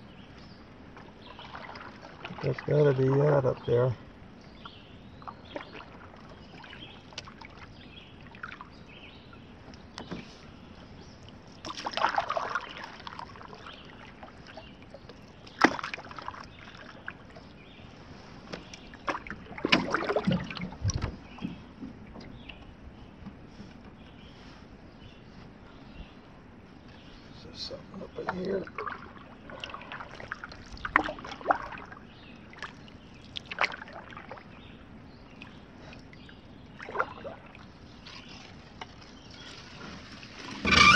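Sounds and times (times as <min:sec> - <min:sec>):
paddle strokes splashing: 0:00.7 - 0:22.7, 0:28.2 - 0:40.9.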